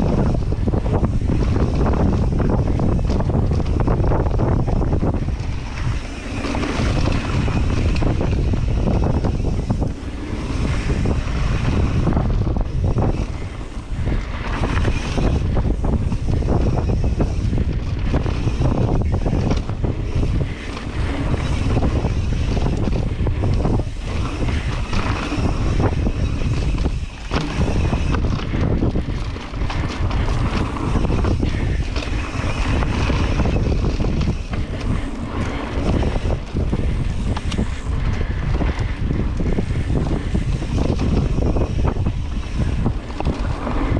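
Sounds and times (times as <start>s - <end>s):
mountain bike rumbling and rattling: 0.0s - 43.9s
wind buffeting microphone: 0.0s - 43.9s.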